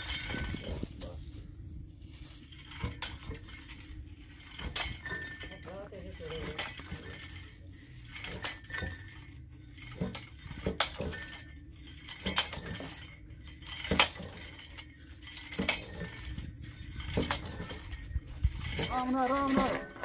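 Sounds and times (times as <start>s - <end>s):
metal clinks and knocks: 0.0s - 20.0s.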